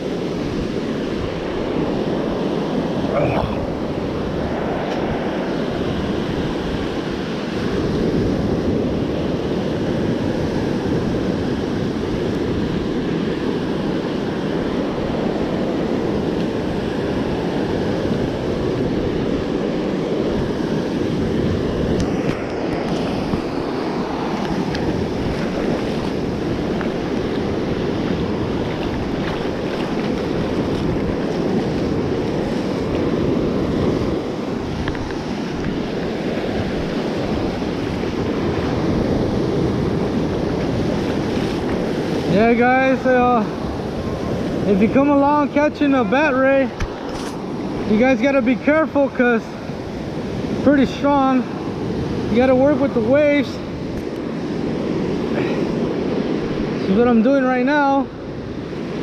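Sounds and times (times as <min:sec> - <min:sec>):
ocean surf washing up beach: 0:00.0 - 0:59.0
wind buffeting microphone: 0:00.0 - 0:59.0.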